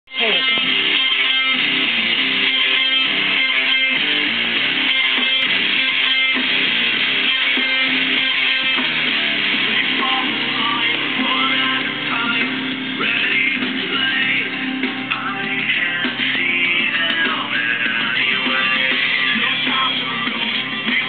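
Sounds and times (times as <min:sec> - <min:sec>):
strummed guitar music: 0:00.1 - 0:21.0.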